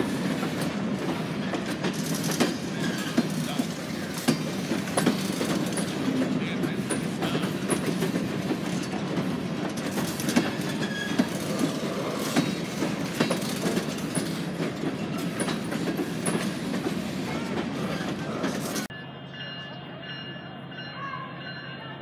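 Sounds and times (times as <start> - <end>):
wheels clacking over rail joints: 0.0 - 18.9
train cars rumbling: 0.0 - 22.0.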